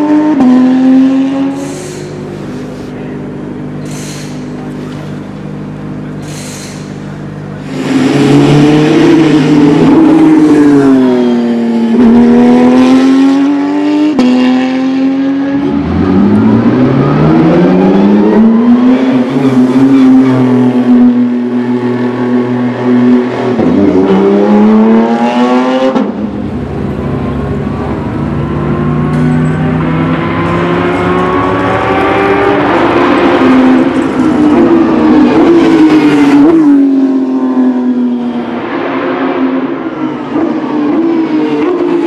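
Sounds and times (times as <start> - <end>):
racing car approaching: 0.0 - 42.0
racing car engines revving: 0.0 - 42.0.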